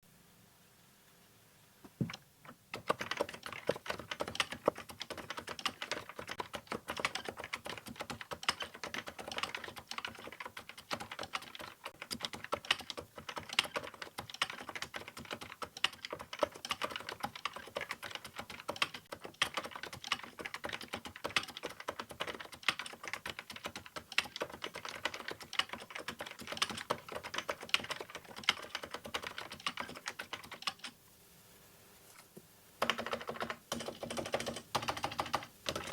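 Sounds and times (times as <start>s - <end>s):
fast keyboard typing: 2.0s - 31.0s, 32.8s - 35.9s.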